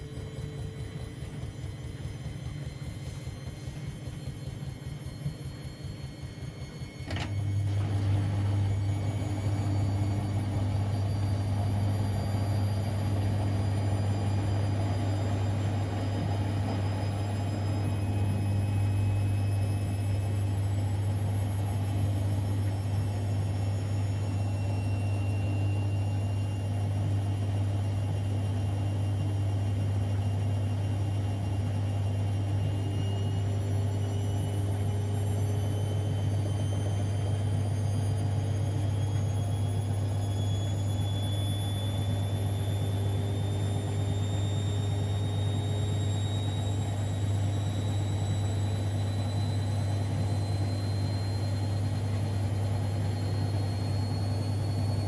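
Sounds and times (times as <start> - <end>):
faint whine shifting in pitch: 0.0 - 55.0
washing machine hum: 0.0 - 55.0.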